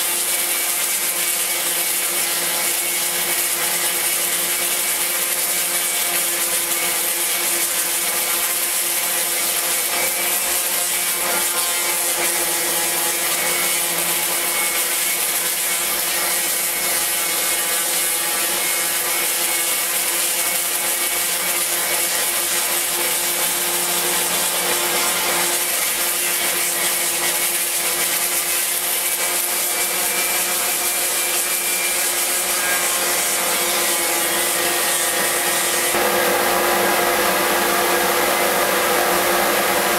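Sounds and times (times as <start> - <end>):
sandpaper hissing on wood: 0.0 - 36.0
orbital sander motor hum: 0.0 - 39.9.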